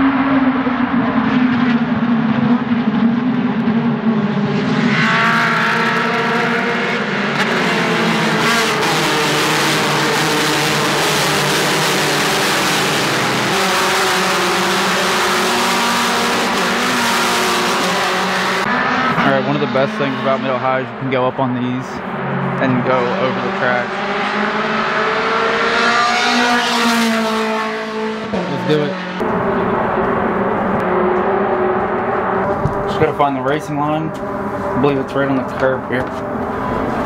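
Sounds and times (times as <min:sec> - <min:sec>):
race car engines at high revs: 0:00.0 - 0:37.0.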